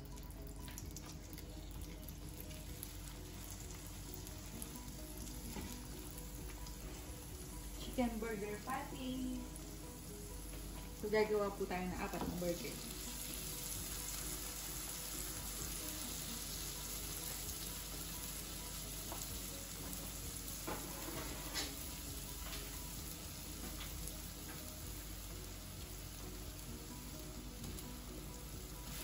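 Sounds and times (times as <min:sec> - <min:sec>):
patties sizzling in a frying pan: 0:00.0 - 0:29.0.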